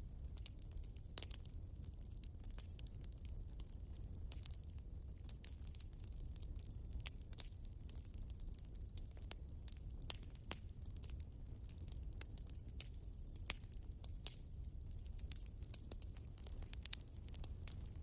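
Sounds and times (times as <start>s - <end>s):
logs crackling and popping: 0.0s - 18.0s
low rumble of flames: 0.0s - 18.0s.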